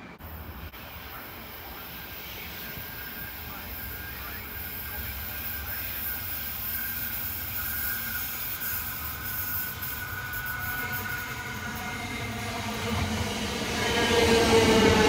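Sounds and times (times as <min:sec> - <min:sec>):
electric train approaching: 0:00.0 - 0:15.0.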